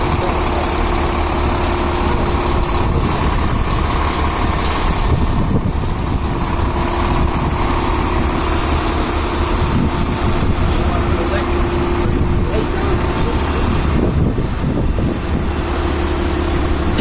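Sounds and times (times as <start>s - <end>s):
road noise: 0.0s - 17.0s
truck engine rumbling: 0.0s - 17.0s.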